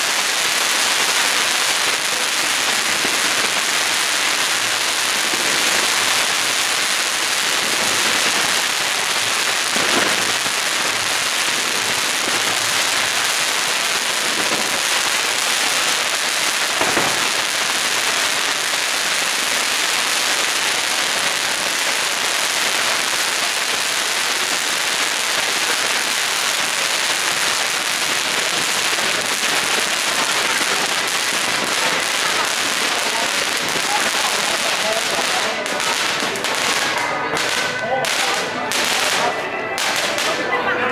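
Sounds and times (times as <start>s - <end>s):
loud firework crack: 0.0s - 40.7s
fireworks crackling and hissing: 0.0s - 40.9s.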